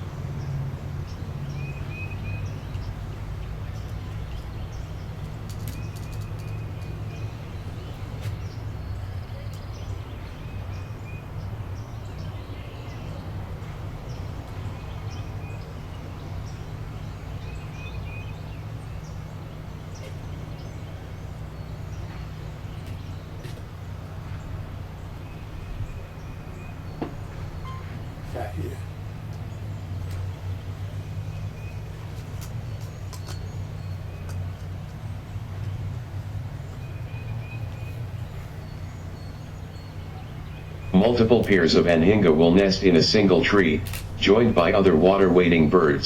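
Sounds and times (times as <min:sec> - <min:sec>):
low outdoor background rumble: 0:00.0 - 0:46.0.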